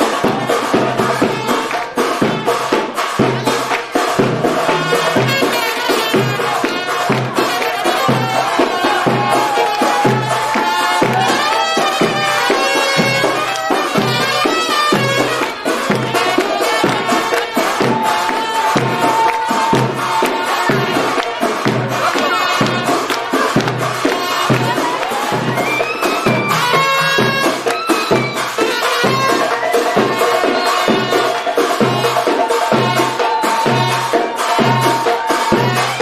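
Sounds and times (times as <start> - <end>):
reedy wind instrument melody: 0.0 - 36.0
steady drum beat: 0.0 - 36.0.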